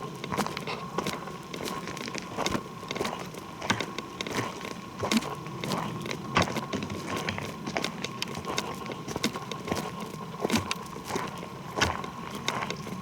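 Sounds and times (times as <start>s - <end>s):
footsteps on leaf litter and twigs: 0.0s - 13.0s.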